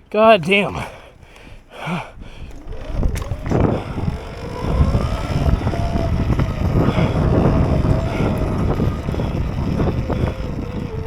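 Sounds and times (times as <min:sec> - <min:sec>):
wind noise on microphone: 0:00.0 - 0:11.0
electric dirt bike motor whine: 0:00.6 - 0:11.0.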